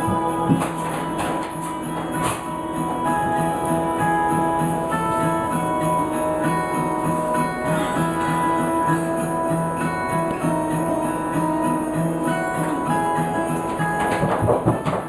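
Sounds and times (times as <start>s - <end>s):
sustained melody notes: 0.0s - 15.0s.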